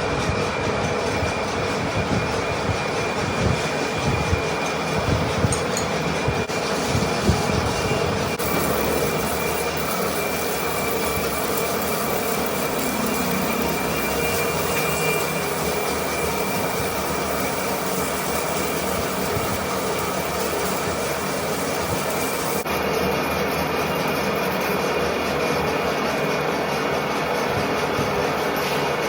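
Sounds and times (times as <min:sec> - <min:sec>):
high machine whine: 0:00.0 - 0:29.0
metal lathe running: 0:00.0 - 0:29.0.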